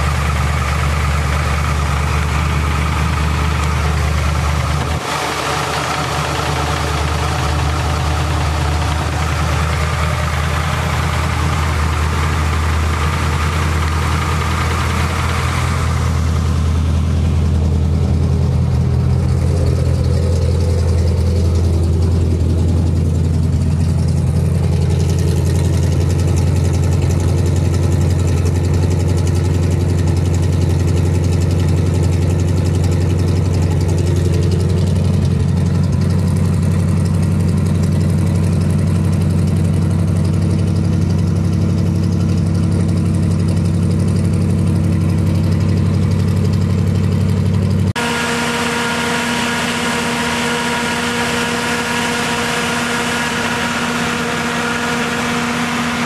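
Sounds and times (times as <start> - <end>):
engine exhaust rumble: 0.0 - 56.0
engine running with whining tones: 0.0 - 56.0.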